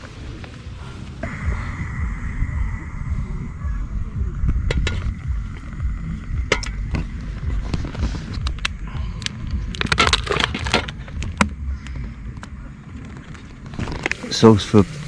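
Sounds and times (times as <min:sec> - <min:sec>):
gas stove rumble: 0:00.7 - 0:14.2.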